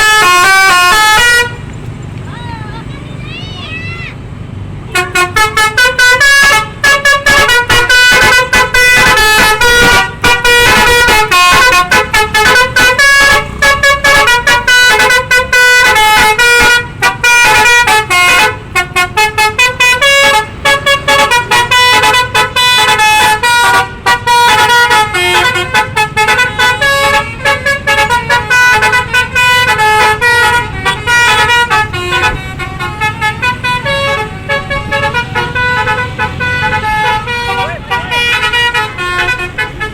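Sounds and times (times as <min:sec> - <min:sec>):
bus musical air horn tune: 0:00.0 - 0:01.6, 0:04.9 - 0:39.9.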